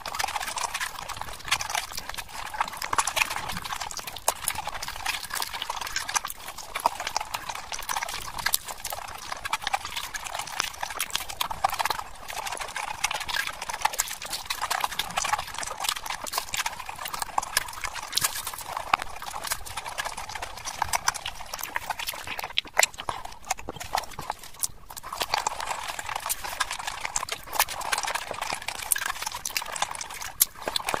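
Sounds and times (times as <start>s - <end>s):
chewing with wet clicks: 0.0s - 31.0s.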